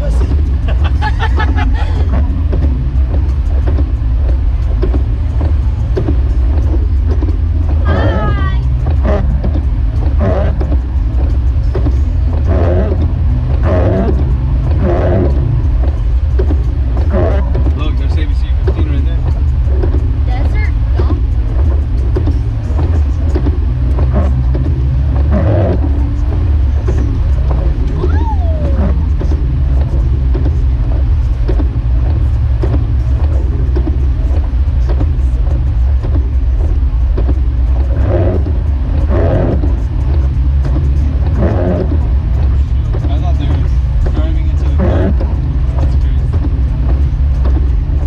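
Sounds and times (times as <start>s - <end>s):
engine and road rumble: 0.0s - 48.0s
muffled midrange sounds: 0.0s - 48.0s.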